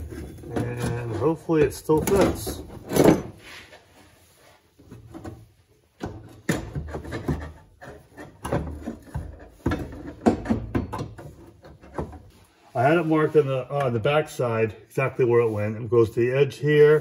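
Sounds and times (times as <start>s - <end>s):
metal frame clunks and scrapes: 0.0s - 14.2s.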